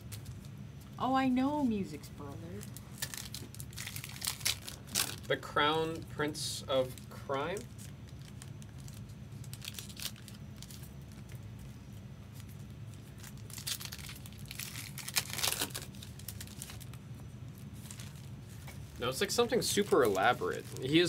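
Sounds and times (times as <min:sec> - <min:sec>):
steady low hum: 0:00.0 - 0:21.0
foil wrappers crinkling and tearing: 0:02.5 - 0:05.8, 0:06.8 - 0:21.0.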